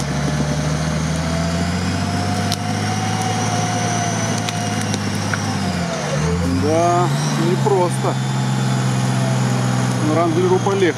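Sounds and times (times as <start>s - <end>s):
car engine running: 0.0s - 10.9s
winch whining: 0.0s - 10.9s.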